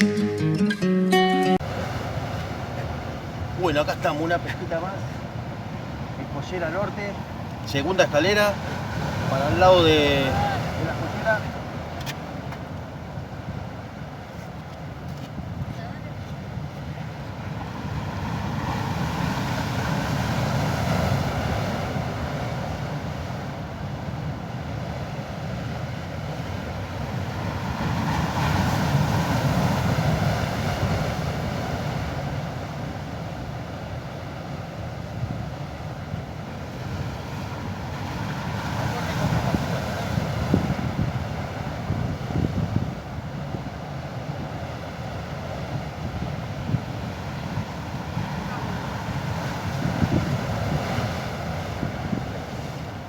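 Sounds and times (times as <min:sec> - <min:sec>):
waves washing against rocks: 0:01.6 - 0:53.0
wind on microphone: 0:01.6 - 0:53.0.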